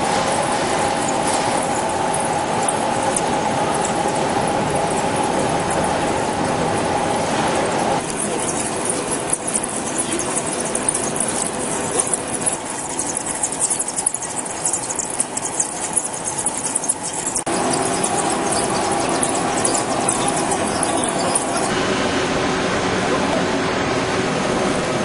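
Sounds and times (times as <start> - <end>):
lathe tool scraping metal: 0.0 - 21.8
machine hum: 0.0 - 25.0.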